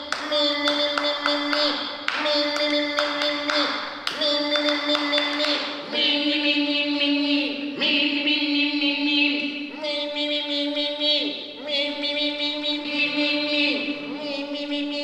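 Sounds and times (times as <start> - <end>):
group overtone singing drone: 0.0 - 15.0.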